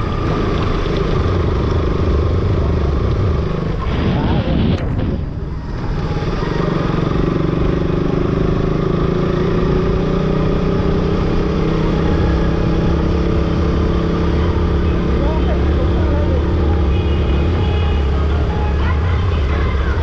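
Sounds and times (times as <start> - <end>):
motorcycle engine running: 0.0 - 3.8, 4.8 - 20.0
wind and road noise: 0.0 - 20.0.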